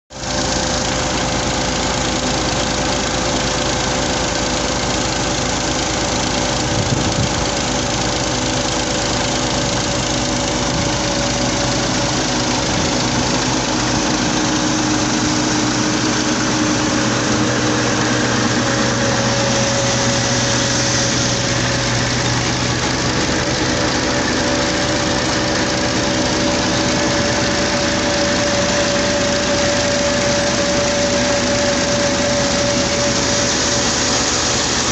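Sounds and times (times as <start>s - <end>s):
tractor diesel engine running: 0.1s - 34.9s
steady whine: 0.2s - 34.9s.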